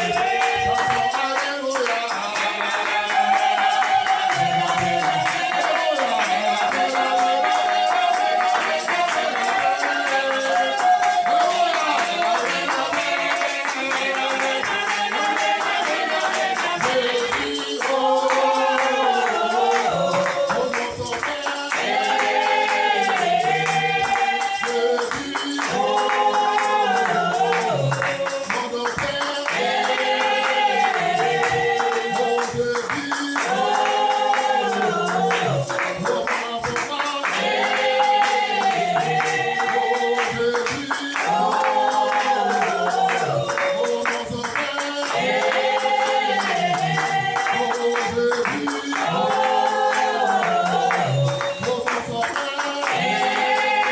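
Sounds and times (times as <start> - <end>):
group singing worship song: 0.0 - 53.9
hand clapping: 0.0 - 53.9
tambourine: 0.0 - 53.9.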